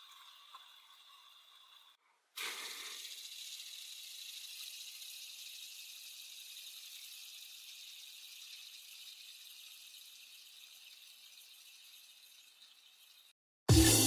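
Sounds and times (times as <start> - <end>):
fidget spinner whirring: 0.0 - 13.4.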